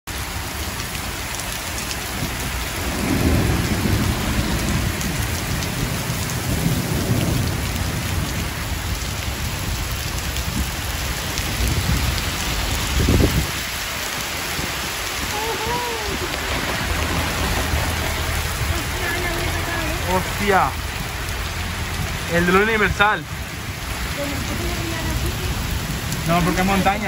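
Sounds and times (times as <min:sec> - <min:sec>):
car splashing through water: 0:00.1 - 0:27.0
heavy rain on a flooded street: 0:00.1 - 0:27.0
thunder rumbling: 0:02.0 - 0:27.0.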